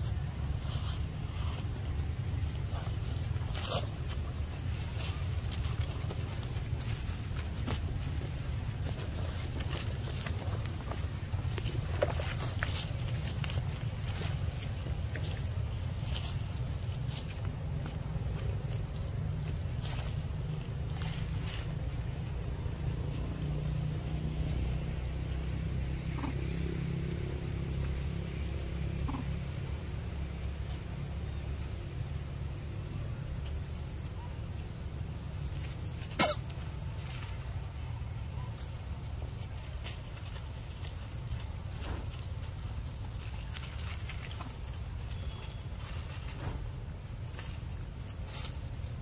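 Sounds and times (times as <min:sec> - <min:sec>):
high insect drone: 0:00.0 - 0:49.0.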